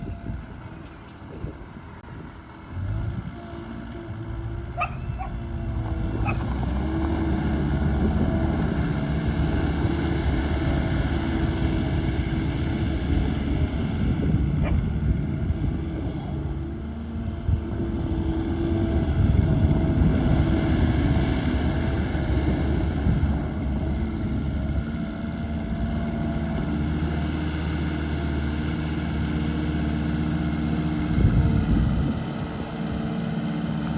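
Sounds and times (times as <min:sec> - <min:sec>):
diesel engine starting and running: 0:00.0 - 0:33.9.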